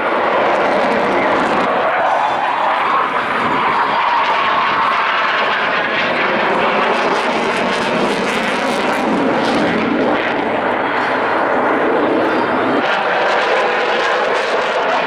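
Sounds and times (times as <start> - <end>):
aircraft engine noise: 0.0 - 15.0.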